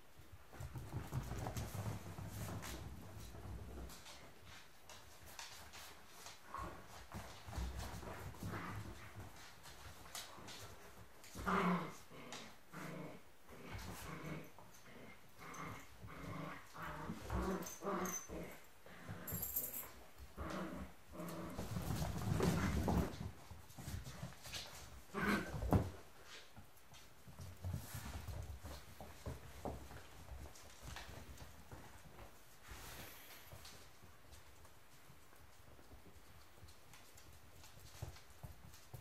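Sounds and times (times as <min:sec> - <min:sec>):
puppies play-growling and yapping: 0:00.2 - 0:39.0.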